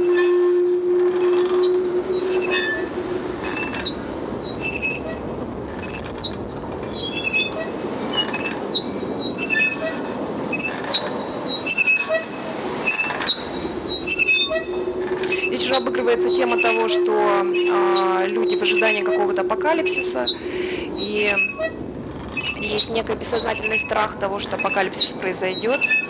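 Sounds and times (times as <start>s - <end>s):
rushing drone: 0.0s - 10.6s, 12.4s - 25.6s.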